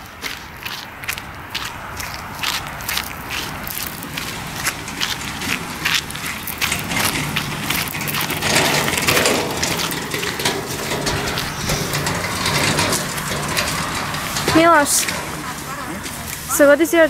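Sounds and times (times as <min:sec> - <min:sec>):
footsteps crunching on gravel: 0:00.0 - 0:17.0.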